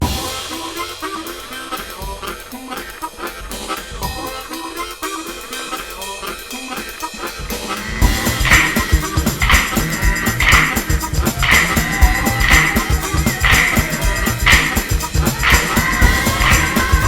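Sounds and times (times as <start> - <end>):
music with steady drum beat: 0.0 - 17.0.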